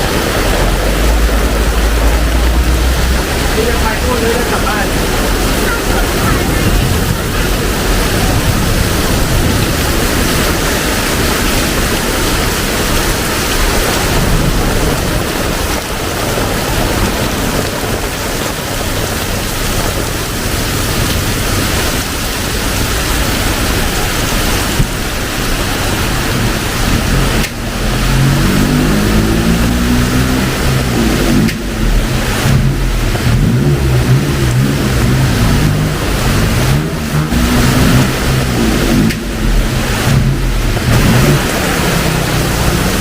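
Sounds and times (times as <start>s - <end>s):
heavy rain pouring: 0.0s - 43.0s
vehicle engine: 0.0s - 43.0s.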